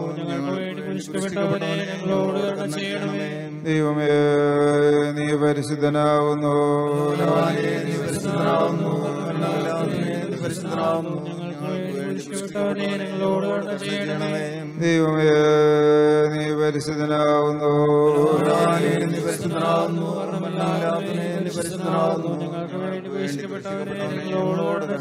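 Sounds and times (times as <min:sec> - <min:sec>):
man chanting a prayer: 0:00.0 - 0:25.0.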